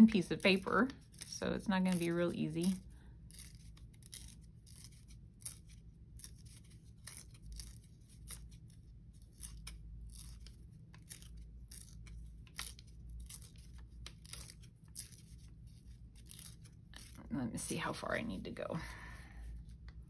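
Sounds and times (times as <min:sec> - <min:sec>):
paper tearing: 0:00.0 - 0:17.3.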